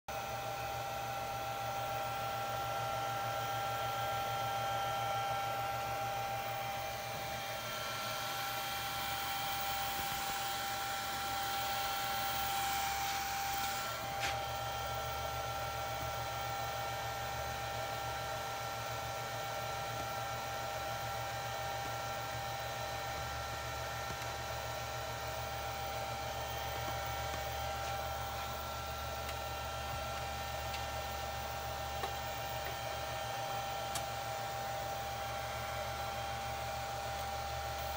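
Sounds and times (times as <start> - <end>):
electrical drive whirring and whining: 0.1 - 37.9.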